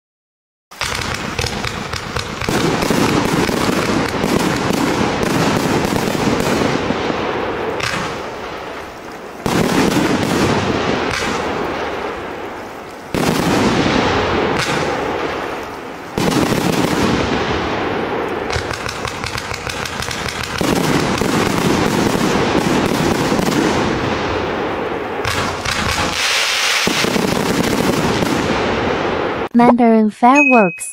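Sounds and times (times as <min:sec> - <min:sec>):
fireworks launching and bursting: 0:00.7 - 0:30.4.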